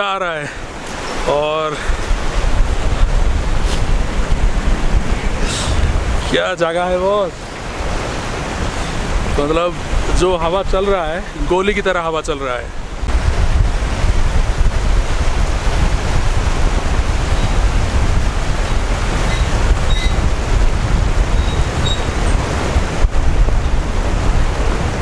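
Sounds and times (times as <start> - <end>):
river rushing: 0.0 - 25.0
wind buffeting microphone: 0.6 - 25.0.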